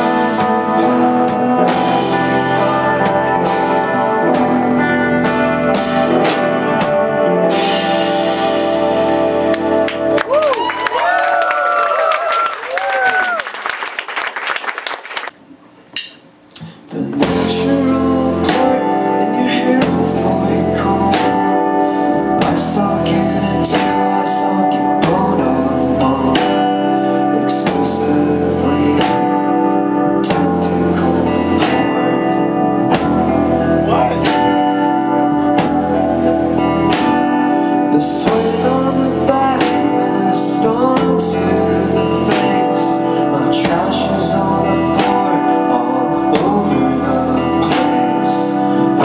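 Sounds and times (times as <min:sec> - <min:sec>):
man singing: 0:00.0 - 0:10.1, 0:16.6 - 0:49.0
live rock band playing: 0:00.0 - 0:11.9, 0:17.0 - 0:49.0.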